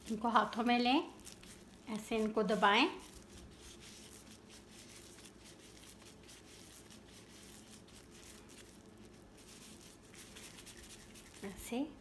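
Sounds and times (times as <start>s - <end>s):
plastic gloves rustling: 0.0s - 12.0s
soft squishing of food mixture: 0.0s - 12.0s.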